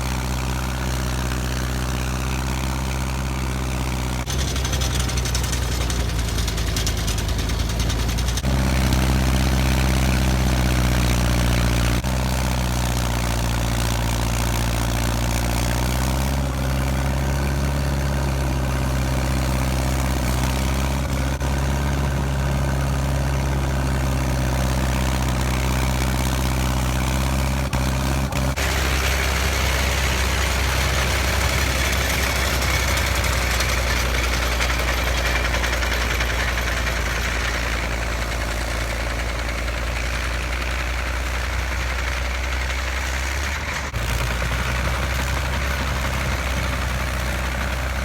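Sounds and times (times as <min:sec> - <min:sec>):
tractor engine running under load: 0:00.0 - 0:48.0.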